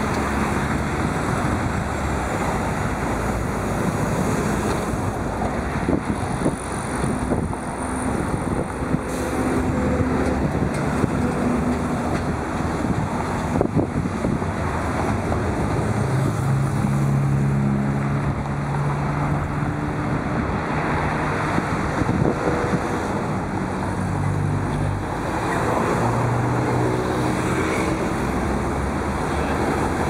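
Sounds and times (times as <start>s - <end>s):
wind buffeting microphone: 0.0s - 17.4s, 18.0s - 30.0s
tyre and road noise: 0.0s - 30.0s
vehicles driving past: 0.0s - 30.0s.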